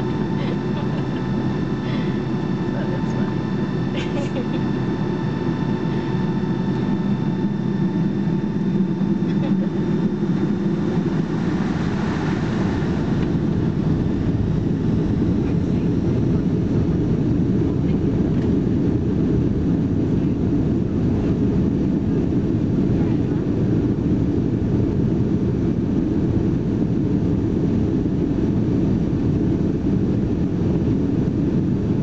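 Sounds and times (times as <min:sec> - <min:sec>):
airplane cabin engine noise: 0:00.0 - 0:32.0
faint high whine: 0:00.0 - 0:32.0.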